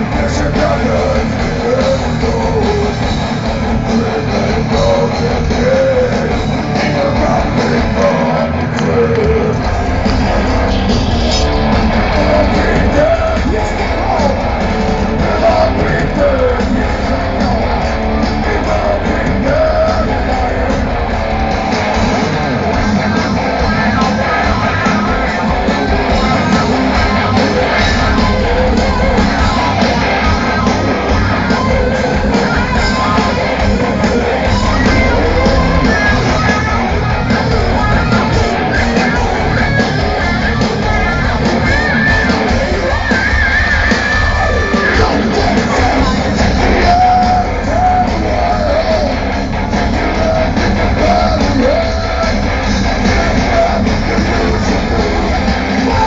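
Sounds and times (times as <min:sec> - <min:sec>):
live thrash metal band: 0:00.0 - 0:56.0.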